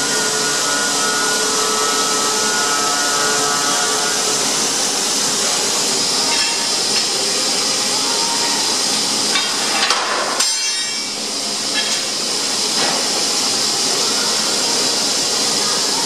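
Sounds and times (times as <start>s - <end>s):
metal saw hissing: 0.0s - 14.9s.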